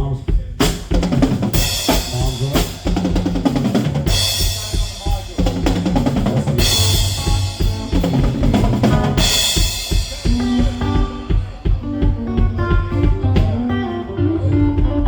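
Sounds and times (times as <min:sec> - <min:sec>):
drum kit groove: 0:00.0 - 0:15.0.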